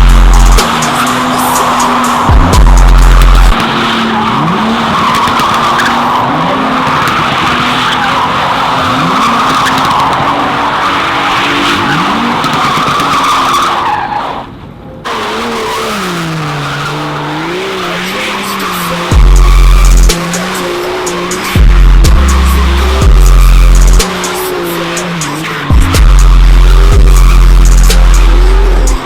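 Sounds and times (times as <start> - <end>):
tyres squealing: 0.0 - 14.5, 15.1 - 29.0
car engine at high revs: 0.0 - 29.0.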